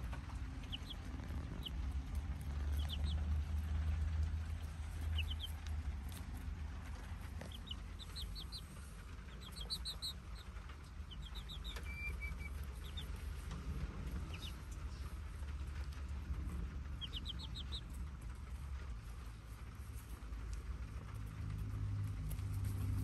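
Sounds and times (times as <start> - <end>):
chicks peeping: 0.0 - 23.0
low steady rumble: 0.0 - 23.0.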